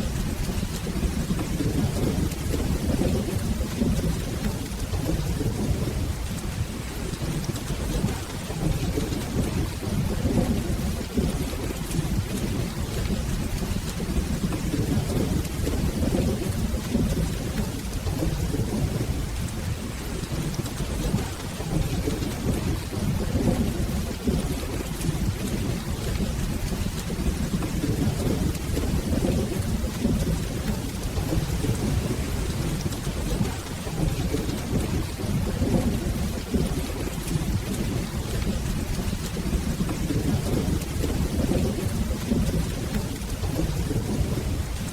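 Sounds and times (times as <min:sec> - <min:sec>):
rolling thunder rumble: 0:00.0 - 0:44.9
steady rain: 0:00.0 - 0:44.9.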